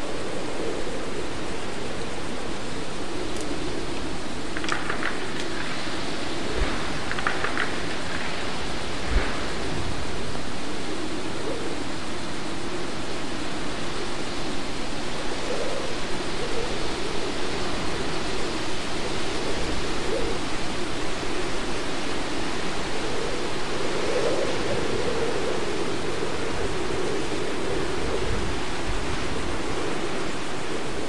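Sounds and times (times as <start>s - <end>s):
hurricane wind rushing: 0.0s - 31.0s
low wavering wind tone: 0.0s - 31.0s.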